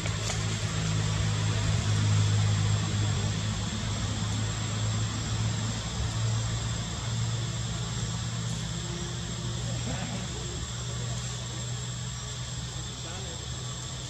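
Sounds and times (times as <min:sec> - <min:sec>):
constant hiss: 0:00.0 - 0:14.0
low engine-like hum: 0:00.0 - 0:14.0.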